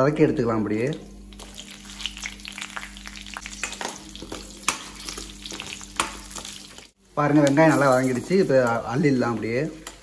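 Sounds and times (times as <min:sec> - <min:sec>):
onion sizzling in hot oil: 0:01.2 - 0:10.0.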